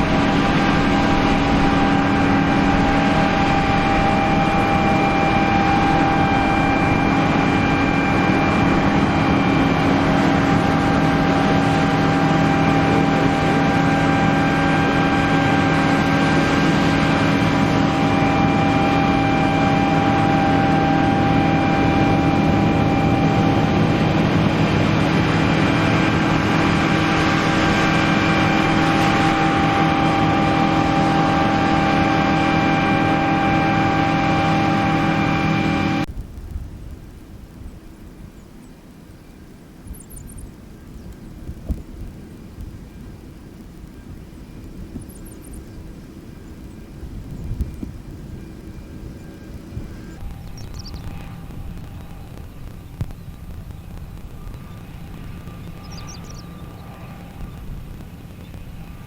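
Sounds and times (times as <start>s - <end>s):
combine harvester droning: 0.0s - 59.0s
machinery whine: 0.0s - 59.0s.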